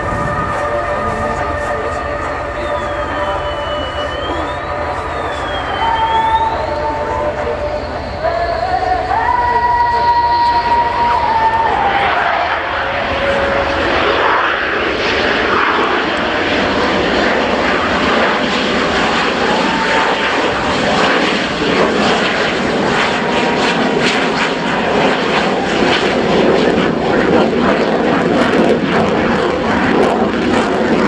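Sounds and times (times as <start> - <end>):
fighter jet engine roaring: 0.0 - 31.0.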